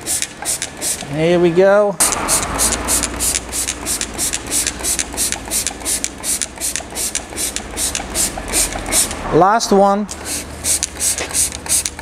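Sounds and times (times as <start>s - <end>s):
spray bottle trigger hissing: 0.0s - 1.2s, 2.0s - 9.2s, 10.1s - 12.0s
steady low hum: 0.0s - 12.0s.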